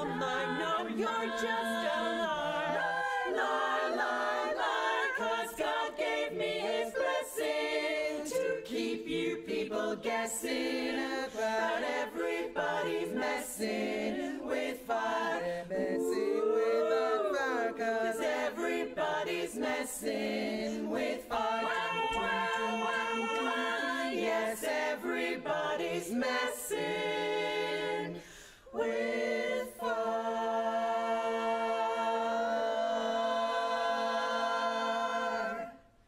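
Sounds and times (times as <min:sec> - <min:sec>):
women singing close harmony: 0:00.0 - 0:36.0.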